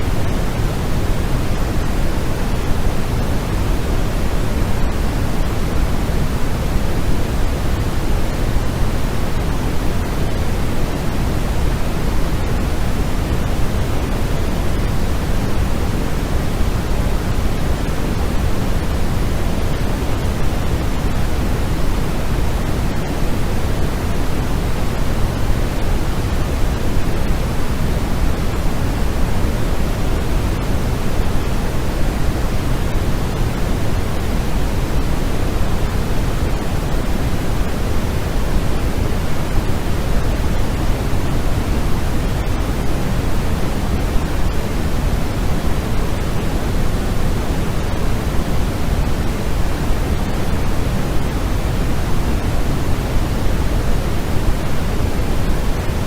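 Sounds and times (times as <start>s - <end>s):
steady electronic noise hiss: 0.0s - 56.0s.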